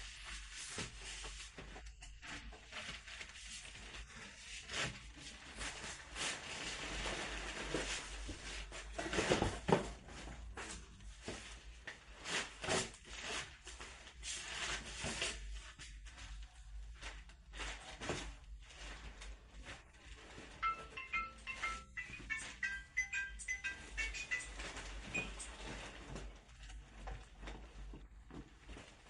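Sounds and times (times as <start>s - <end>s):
rustling and scraping: 0.0s - 29.0s.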